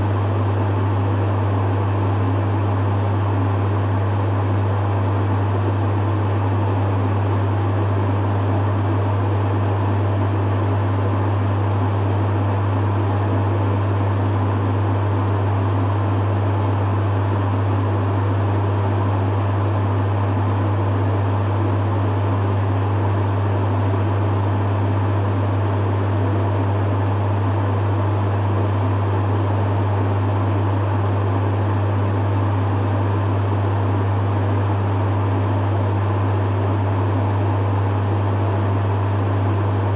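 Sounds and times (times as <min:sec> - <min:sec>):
dehumidifier hum: 0:00.0 - 0:39.9.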